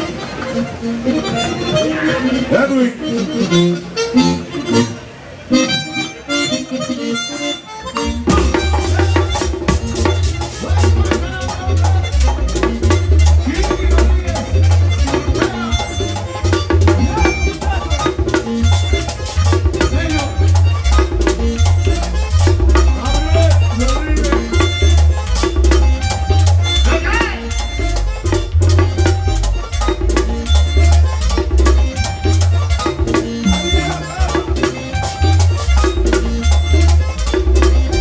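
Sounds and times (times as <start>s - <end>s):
latin dance band music: 0.0s - 38.0s.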